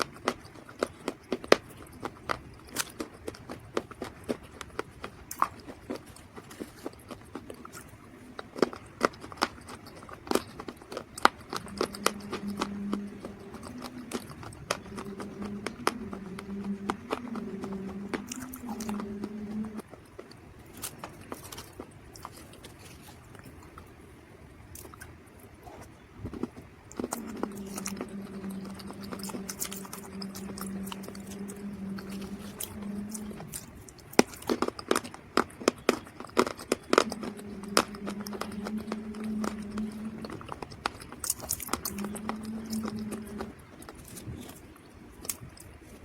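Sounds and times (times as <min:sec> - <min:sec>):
low hum: 0:03.8 - 0:46.0.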